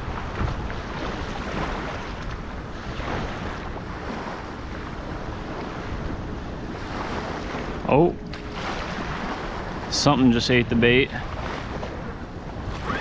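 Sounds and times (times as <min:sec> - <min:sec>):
small waves lapping: 0:00.0 - 0:13.0
wind on microphone: 0:00.0 - 0:13.0.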